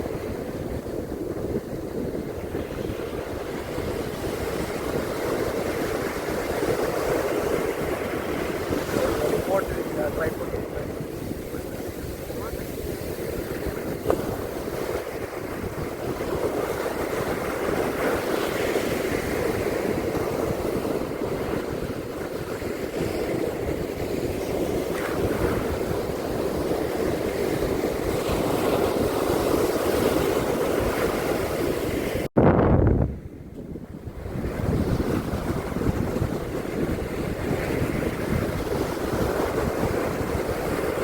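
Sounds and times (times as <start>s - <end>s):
ocean surf on beach: 0.0s - 32.3s, 33.0s - 41.0s
wind buffeting microphone: 0.0s - 41.0s.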